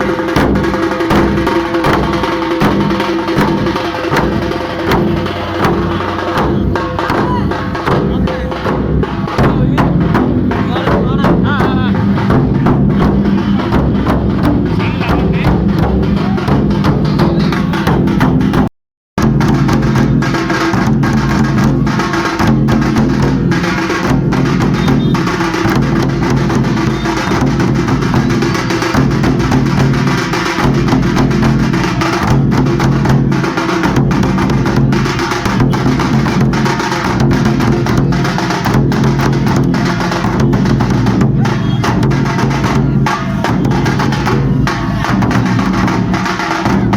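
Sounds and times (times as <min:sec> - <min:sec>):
frame drums struck with sticks: 0:00.0 - 0:46.9.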